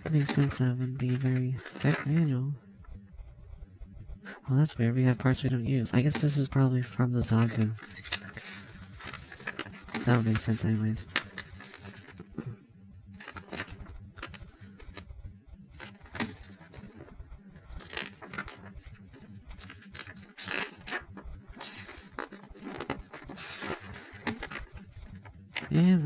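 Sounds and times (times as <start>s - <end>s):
paper pages turning: 0.0s - 2.4s, 5.2s - 12.4s, 13.2s - 26.0s.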